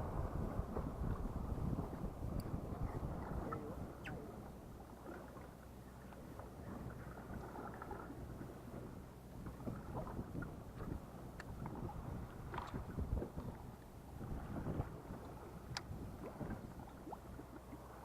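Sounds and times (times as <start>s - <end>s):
boat engine low hum: 0.0s - 18.0s
wind: 0.0s - 18.0s.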